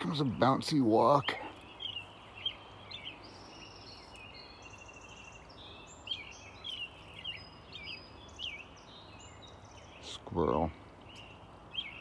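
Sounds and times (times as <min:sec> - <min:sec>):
faint outdoor hum: 0:00.0 - 0:12.0
small birds chirping: 0:00.0 - 0:12.0.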